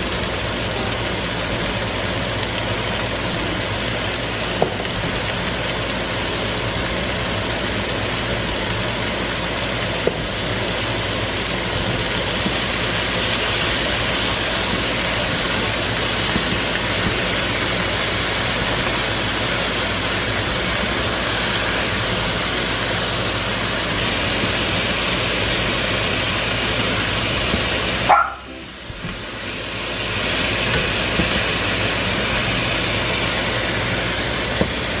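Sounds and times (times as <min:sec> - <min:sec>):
chicken sizzling in a frying pan: 0:00.0 - 0:35.0.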